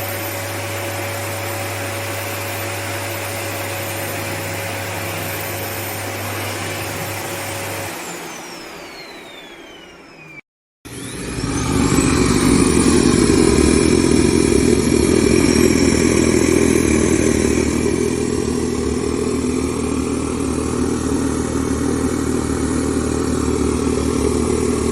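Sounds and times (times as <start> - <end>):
vacuum cleaner motor whine: 0.0 - 24.9.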